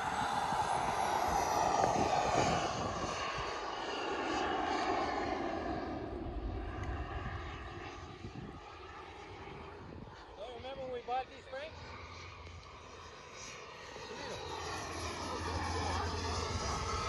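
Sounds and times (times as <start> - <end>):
model jet flying past: 0.0 - 17.0.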